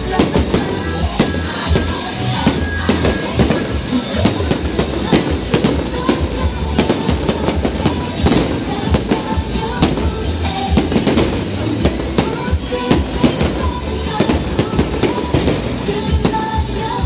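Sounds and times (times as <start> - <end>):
firecrackers crackling: 0.0 - 17.0
music: 0.0 - 17.0.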